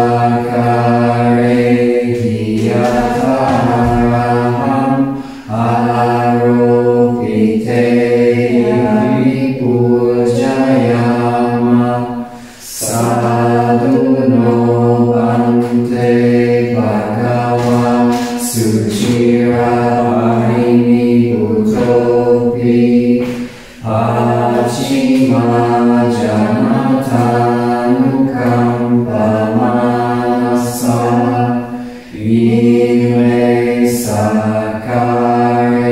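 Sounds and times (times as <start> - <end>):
voices chanting together: 0.0 - 35.9.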